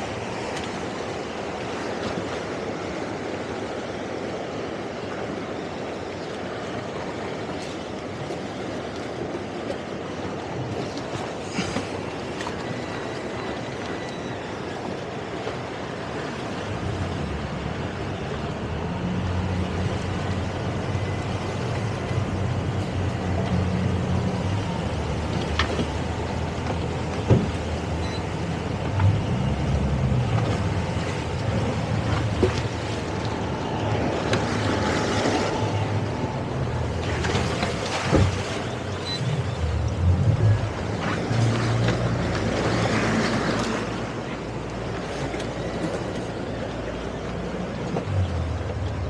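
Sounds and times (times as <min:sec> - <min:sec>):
outboard motors droning: 0:00.0 - 0:49.0
rushing water: 0:00.0 - 0:49.0
wind: 0:00.0 - 0:49.0.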